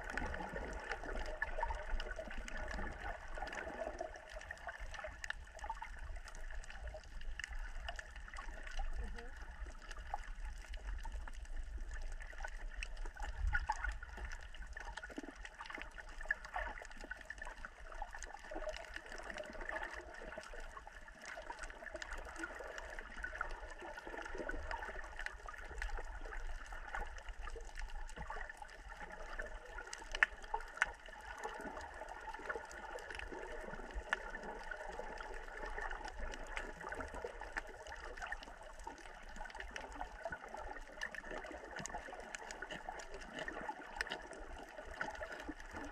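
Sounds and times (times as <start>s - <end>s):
water gurgling and sloshing: 0.0s - 45.9s
small scattered clicks: 0.1s - 45.9s.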